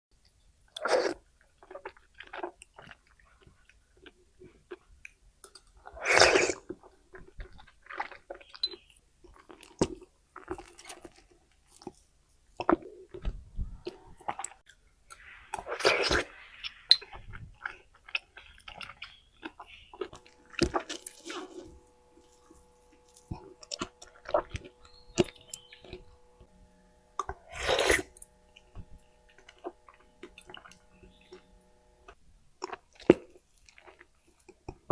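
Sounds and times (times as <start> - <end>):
chewing with wet mouth sounds: 0.7 - 26.5, 27.2 - 34.9.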